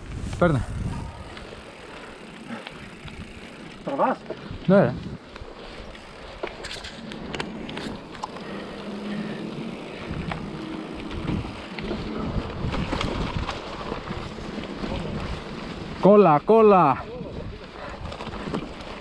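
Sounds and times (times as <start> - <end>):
wind rumbling on microphone: 0.0 - 19.0
bike rattling clicks and knocks: 1.1 - 16.3, 17.5 - 19.0.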